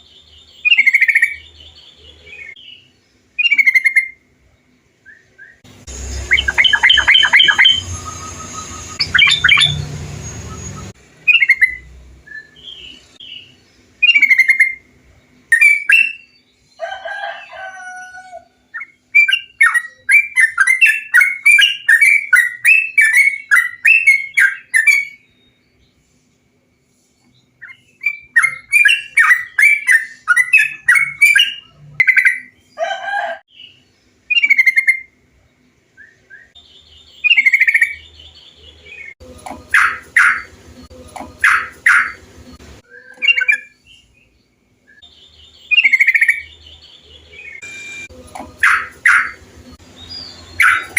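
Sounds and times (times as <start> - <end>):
bulbuls chirping and singing: 0.0 - 4.1, 5.2 - 25.2, 27.4 - 35.0, 36.4 - 44.4, 45.0 - 50.9.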